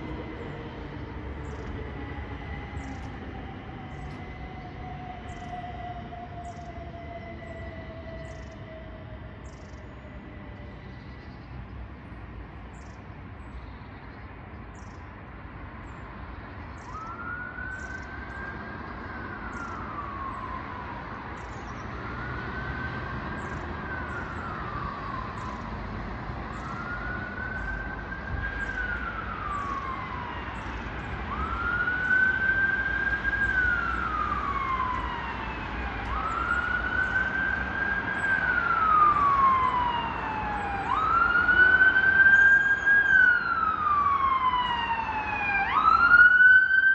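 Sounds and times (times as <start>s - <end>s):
emergency siren wailing: 0.0s - 11.0s, 16.4s - 46.9s
city traffic rumble: 0.0s - 46.9s.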